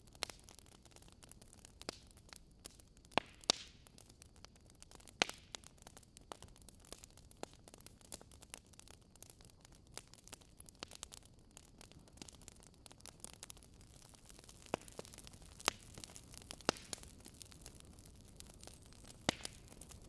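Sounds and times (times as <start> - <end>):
wood fire crackling: 0.0 - 20.0
loud pops from fire: 0.1 - 20.0.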